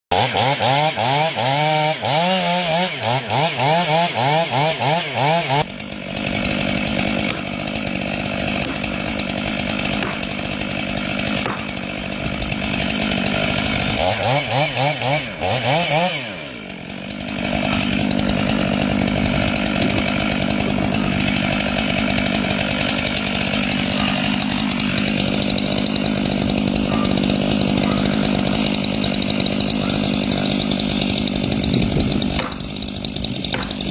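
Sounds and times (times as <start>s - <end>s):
chainsaw revving and cutting wood: 0.1s - 33.9s.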